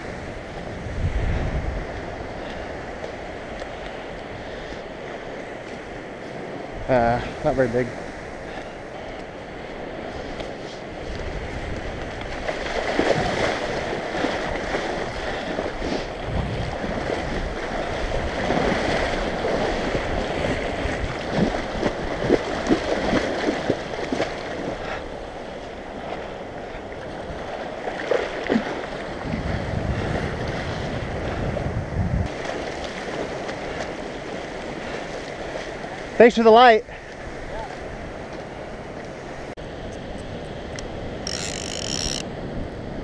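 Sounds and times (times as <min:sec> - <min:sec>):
wind buffeting microphone: 0:00.0 - 0:36.2
surf washing onto beach: 0:00.0 - 0:43.0.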